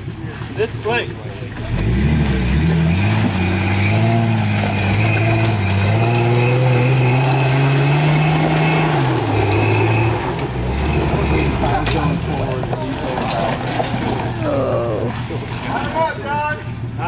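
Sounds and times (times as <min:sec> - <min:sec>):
car engine revving: 0:01.4 - 0:17.0.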